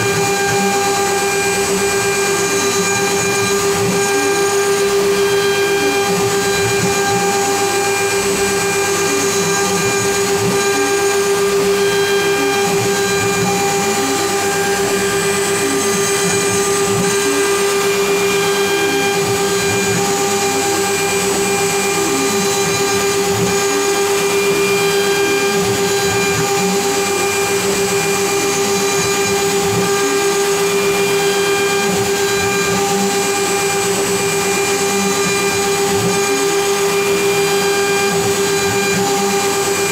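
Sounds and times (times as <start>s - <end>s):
mill cutting wood: 0.0s - 39.9s
router spindle high whine: 0.0s - 39.9s.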